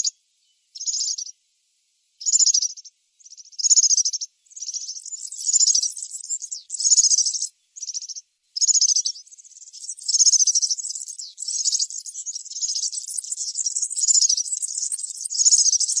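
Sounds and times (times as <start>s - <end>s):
bird singing high jingling trills: 0.0s - 1.4s, 2.2s - 16.0s.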